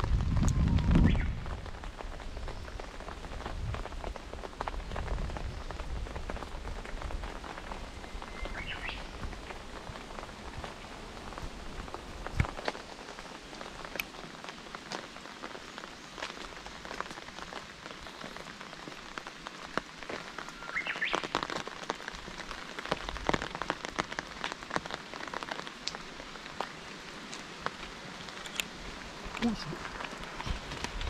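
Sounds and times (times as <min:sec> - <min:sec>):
rain falling steadily: 0:00.0 - 0:31.0
raindrops tapping close by: 0:00.0 - 0:31.0.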